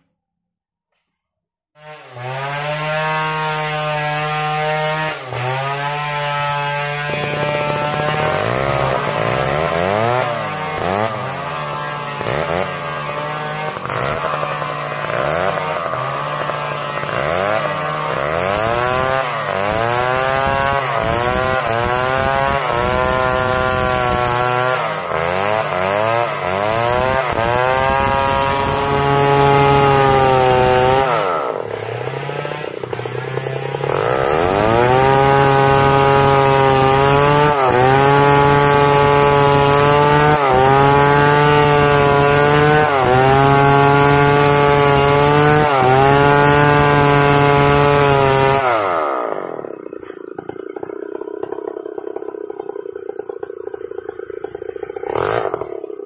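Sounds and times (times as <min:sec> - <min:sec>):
chainsaw cutting through log: 0:01.8 - 0:56.0.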